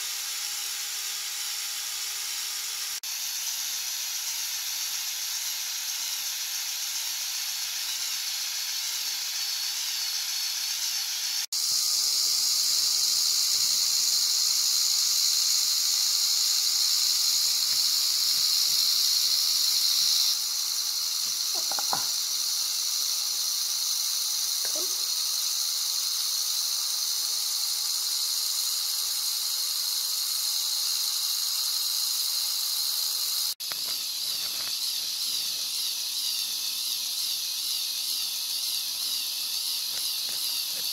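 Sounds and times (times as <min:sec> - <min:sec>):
electric motor whirring: 0:00.0 - 0:40.9.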